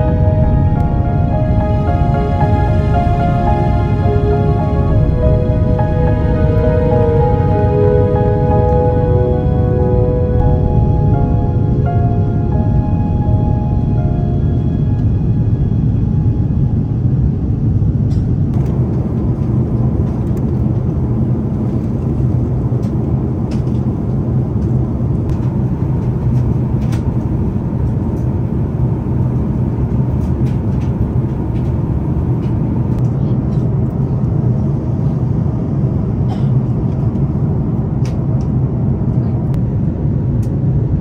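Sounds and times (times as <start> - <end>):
airplane cabin rumble: 0.0 - 41.0.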